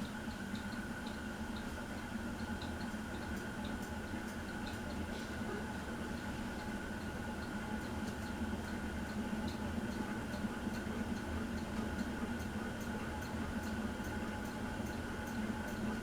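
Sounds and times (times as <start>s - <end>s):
ceiling fan motor hum: 0.0s - 16.0s.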